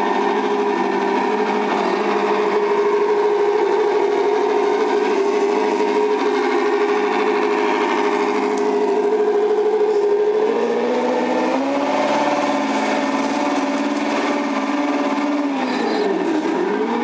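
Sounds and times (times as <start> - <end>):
simulated truck engine from speaker: 0.0 - 17.0.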